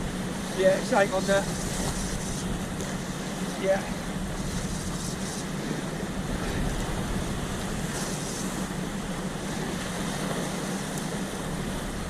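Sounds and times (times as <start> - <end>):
sea surf against rocks: 0.0 - 12.0
wind rumbling on microphone: 0.0 - 12.0.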